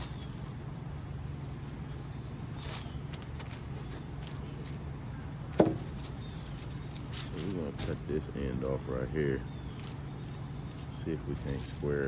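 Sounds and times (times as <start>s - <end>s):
insect chorus trilling: 0.0s - 12.0s
low steady hum: 0.0s - 12.0s.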